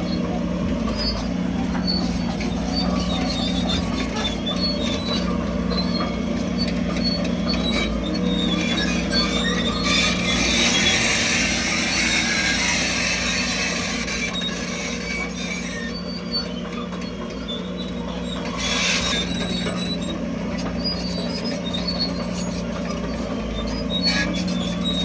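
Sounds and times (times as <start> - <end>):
bulldozer diesel engine running: 0.0 - 25.0
steel tracks squeaking: 0.0 - 25.0.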